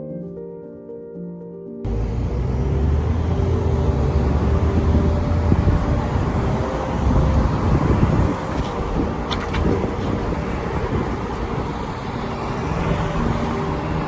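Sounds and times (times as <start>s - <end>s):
background music: 0.0s - 14.0s
car engine and tyre rumble: 1.9s - 14.0s.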